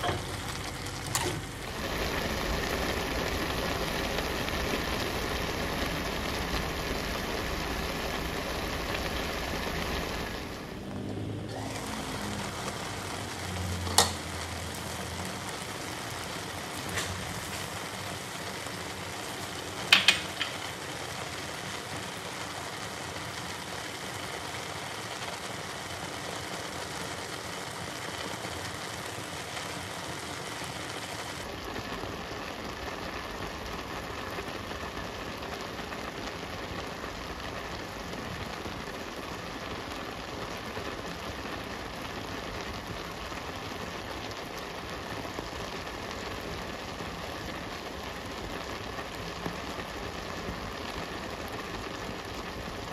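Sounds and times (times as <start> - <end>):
vegetables sizzling in a wok: 0.0 - 52.9.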